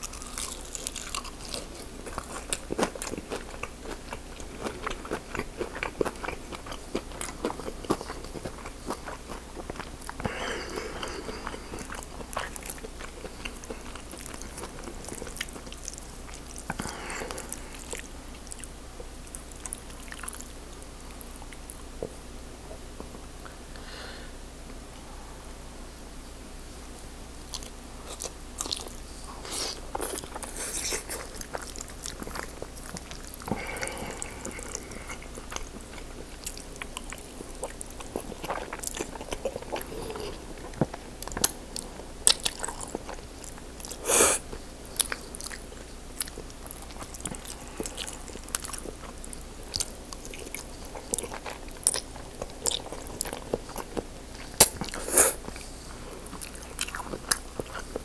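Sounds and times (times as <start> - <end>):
person chewing food: 0.0 - 23.6, 27.4 - 58.0.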